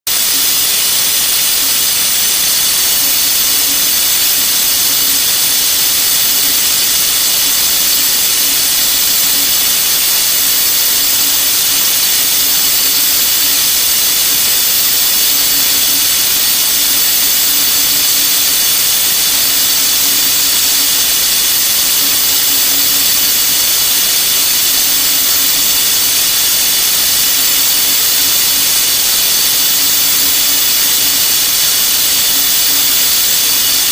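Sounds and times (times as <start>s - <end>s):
spindle high-pitched whine: 0.1s - 33.9s.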